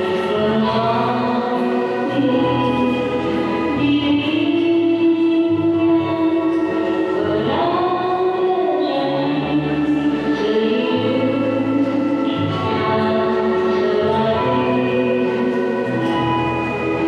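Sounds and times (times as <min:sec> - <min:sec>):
choir-like voices gliding: 0:00.0 - 0:17.0.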